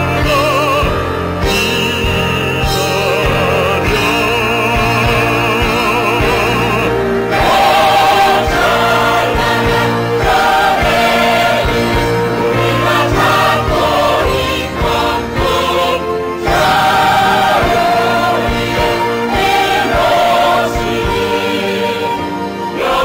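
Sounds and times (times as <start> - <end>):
backing accompaniment: 0.0 - 23.0
chorus singing in unison: 0.0 - 23.0.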